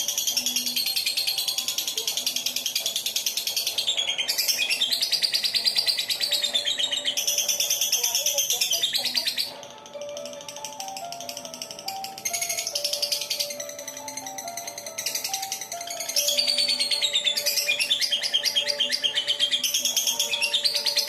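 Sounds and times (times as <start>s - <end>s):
lovebird trilling chatter: 0.0s - 21.0s.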